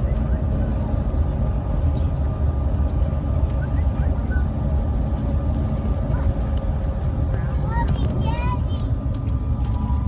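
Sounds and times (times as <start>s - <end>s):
jet cabin rumble: 0.0s - 10.0s.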